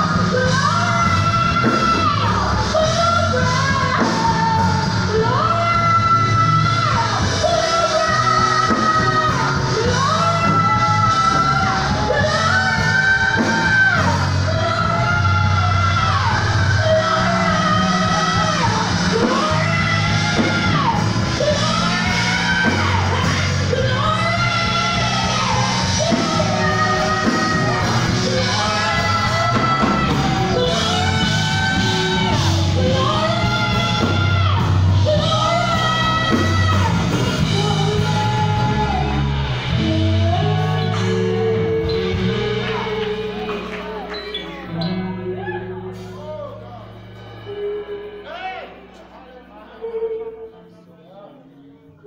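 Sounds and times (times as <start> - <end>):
woman singing: 0.0 - 46.3, 47.4 - 48.8, 49.6 - 51.9
gospel band playing: 0.0 - 52.0.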